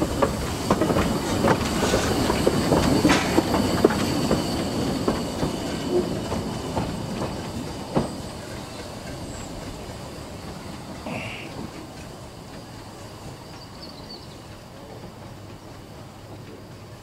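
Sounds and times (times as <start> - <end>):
steam locomotive running past: 0.0 - 17.0
wheels clicking over rail joints: 0.0 - 17.0.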